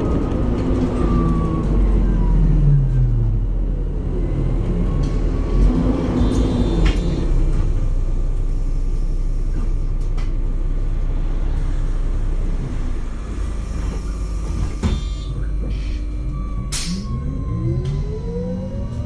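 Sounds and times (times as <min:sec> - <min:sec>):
bus engine rumble: 0:00.0 - 0:19.0
rising whine of bus: 0:00.0 - 0:19.0.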